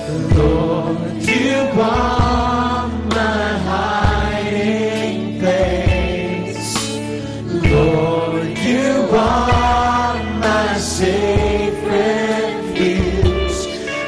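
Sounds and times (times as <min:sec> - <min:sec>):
band playing: 0:00.0 - 0:14.0
bass notes: 0:00.0 - 0:14.0
group singing a worship song: 0:00.0 - 0:14.0.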